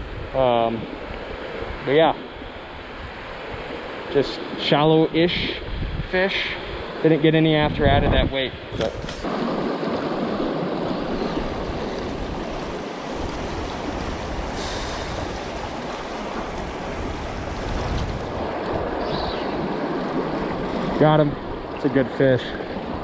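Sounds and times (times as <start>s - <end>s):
rushing river water: 0.0s - 7.7s, 8.6s - 23.0s.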